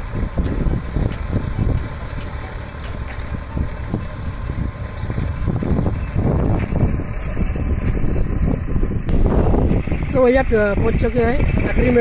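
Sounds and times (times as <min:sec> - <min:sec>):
distant tractor engine under load: 0:00.0 - 0:12.0
wind buffeting microphone: 0:00.0 - 0:12.0.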